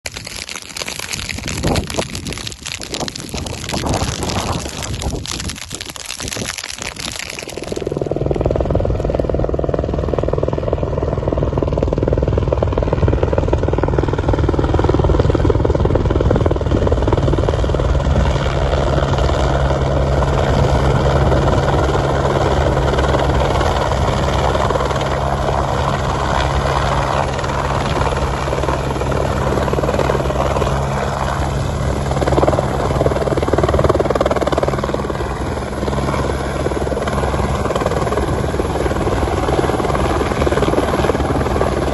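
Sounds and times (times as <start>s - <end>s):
helicopter rotor and engine drone: 7.6s - 41.9s.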